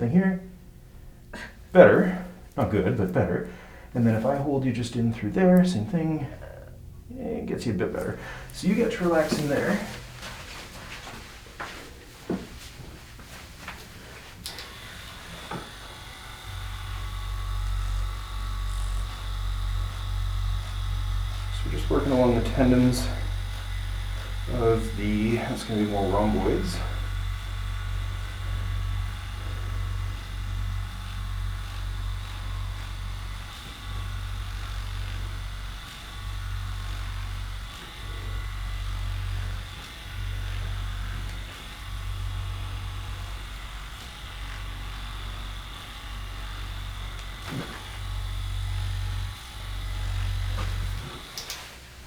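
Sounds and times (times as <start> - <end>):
electric massager buzzing: 0.0 - 52.0.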